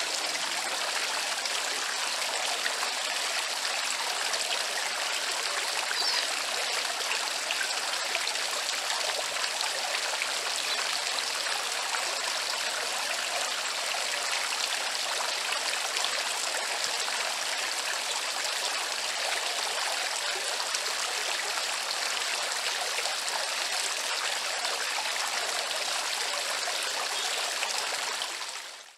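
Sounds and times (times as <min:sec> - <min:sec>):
fountain water splashing: 0:00.0 - 0:28.9.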